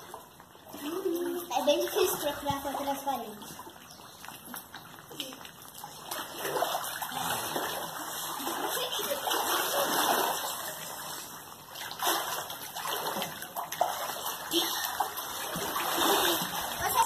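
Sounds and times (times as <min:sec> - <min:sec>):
water splashing in pool: 0:00.0 - 0:17.0.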